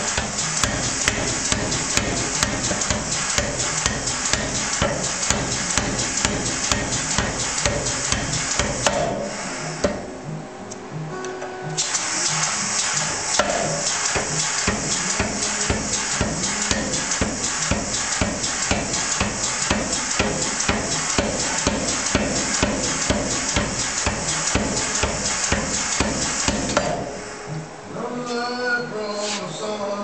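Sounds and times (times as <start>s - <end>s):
power hammer striking hot iron: 0.0s - 10.1s, 11.8s - 27.2s.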